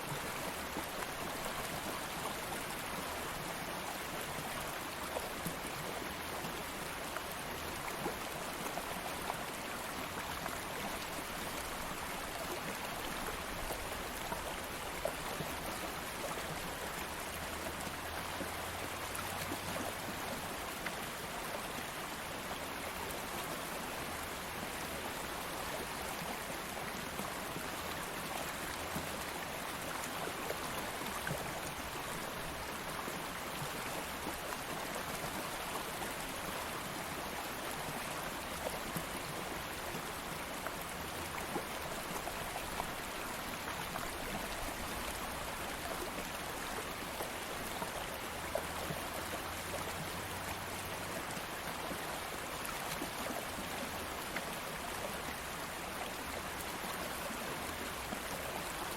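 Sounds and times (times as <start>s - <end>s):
stream rushing and babbling: 0.0s - 58.9s.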